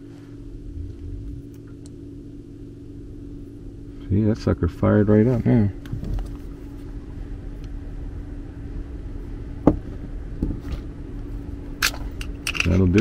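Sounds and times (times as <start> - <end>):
hvac system humming: 0.0 - 13.0.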